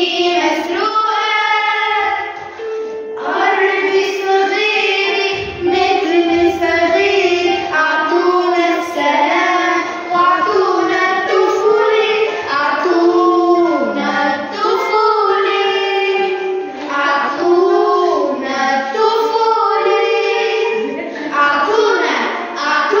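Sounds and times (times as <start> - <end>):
girls singing together: 0.0 - 23.0.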